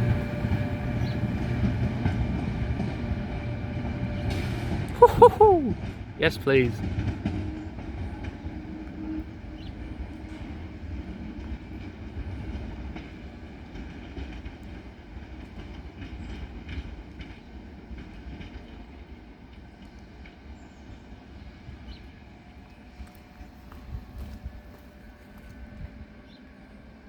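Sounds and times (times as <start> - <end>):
train wheels clattering on rail joints: 0.0 - 5.0, 6.8 - 26.3
locomotive rumble: 0.0 - 27.0.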